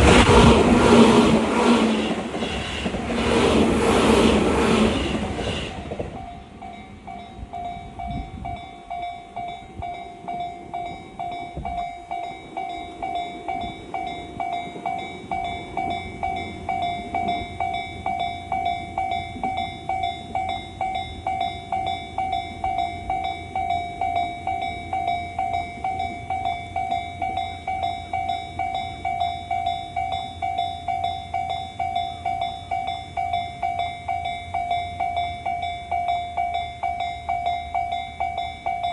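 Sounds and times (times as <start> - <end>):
low train rumble: 0.0 - 38.9.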